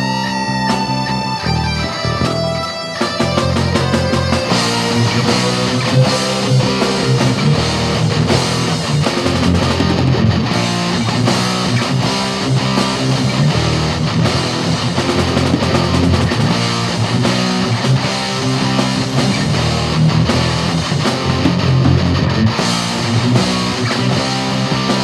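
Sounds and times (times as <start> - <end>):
loud guitar rock music: 0.0 - 25.0.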